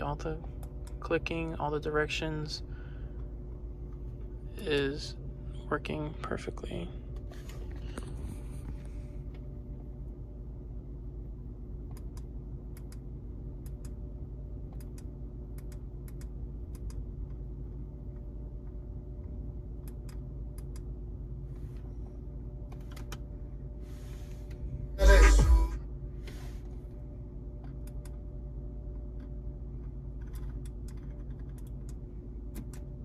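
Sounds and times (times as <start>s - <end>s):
low cabin hum: 0.0s - 33.0s.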